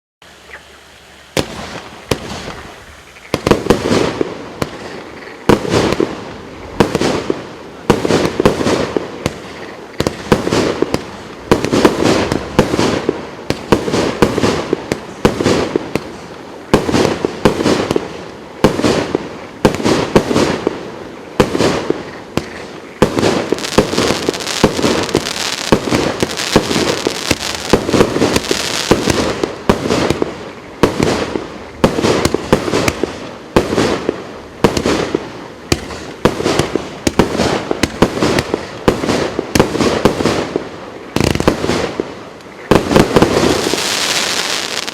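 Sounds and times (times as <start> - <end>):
firework crackling: 1.3 - 44.9
firework bangs: 1.4 - 44.9.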